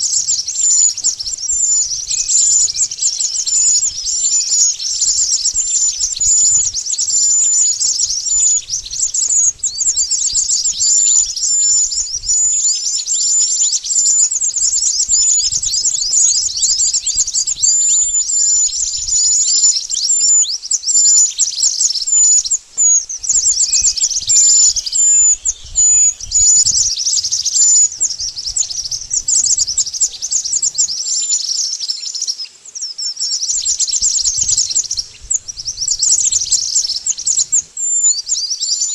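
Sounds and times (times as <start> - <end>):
birds twittering: 0.0 - 38.9.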